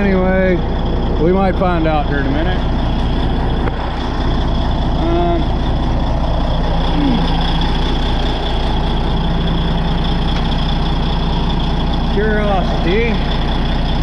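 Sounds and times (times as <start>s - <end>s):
bulldozer diesel engine idling: 0.0s - 14.0s.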